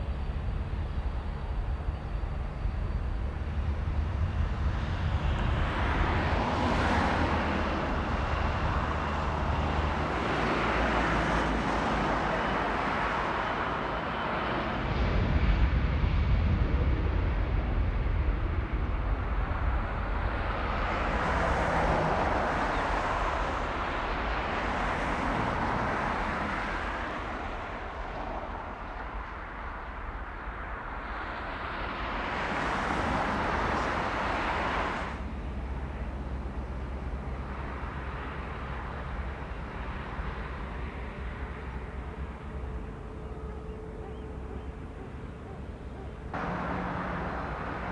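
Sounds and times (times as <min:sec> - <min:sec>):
jet engine rumble and rush: 0:00.0 - 0:43.8, 0:46.2 - 0:47.9.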